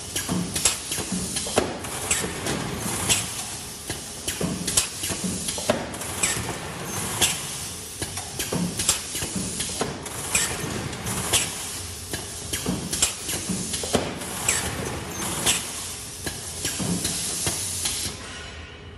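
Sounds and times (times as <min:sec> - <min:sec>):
short pneumatic hisses: 0:00.1 - 0:18.3.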